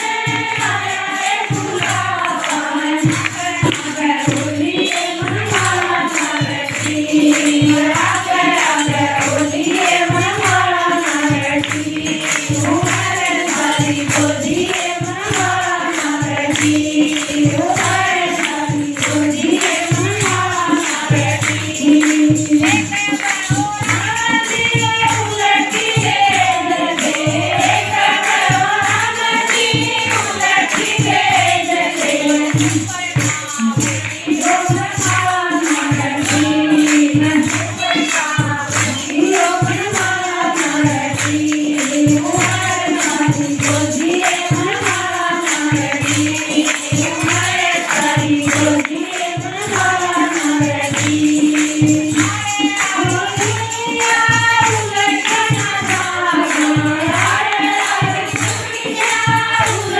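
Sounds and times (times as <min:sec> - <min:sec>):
jingling percussion: 0:00.0 - 0:59.9
women singing devotional song: 0:00.0 - 0:59.9.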